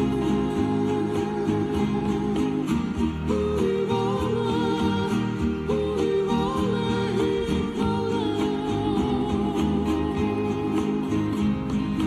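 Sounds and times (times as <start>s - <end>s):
hula music on acoustic guitar: 0.0s - 12.0s.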